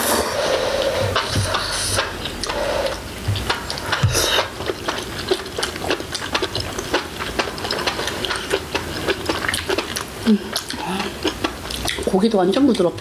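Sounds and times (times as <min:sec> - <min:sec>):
chewing with wet clicks: 0:00.7 - 0:13.0.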